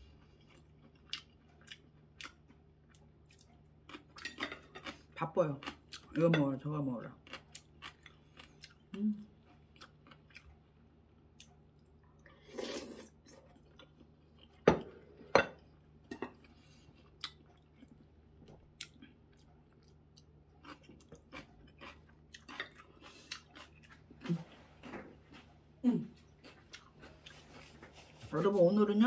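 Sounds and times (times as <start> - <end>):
person chewing: 0.0 - 6.2, 7.2 - 28.2.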